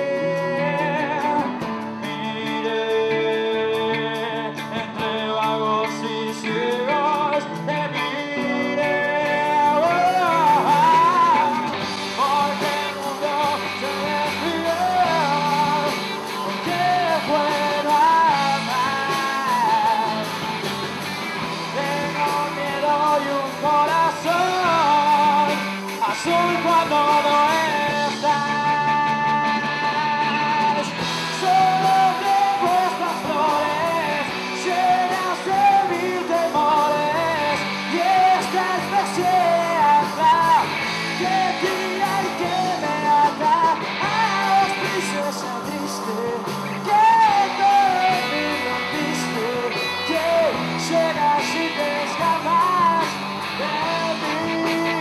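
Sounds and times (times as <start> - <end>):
person singing lead vocals: 0.0 - 55.0
rock band playing: 0.0 - 55.0.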